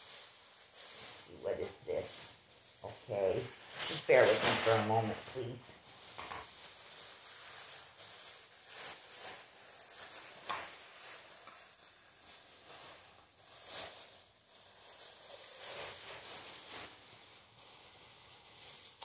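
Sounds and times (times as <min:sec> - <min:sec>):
plastic bag rustling: 0:00.0 - 0:19.0.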